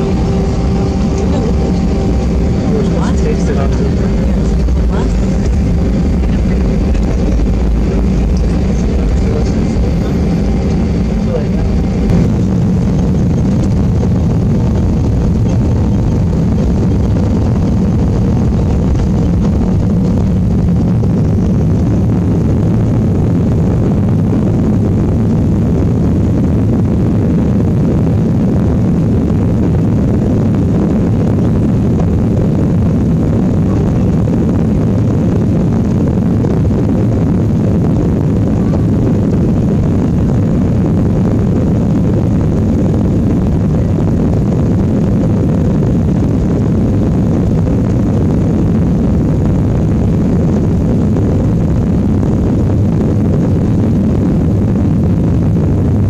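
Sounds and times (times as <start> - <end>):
jet engines at takeoff thrust: 0.0 - 56.0.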